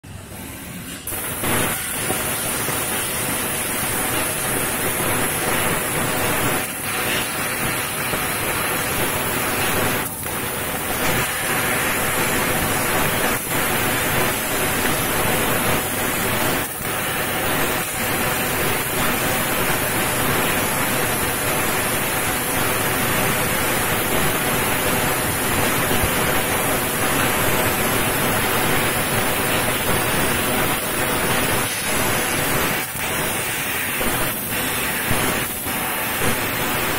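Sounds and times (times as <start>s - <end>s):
laser cutter hissing: 0.4s - 36.9s.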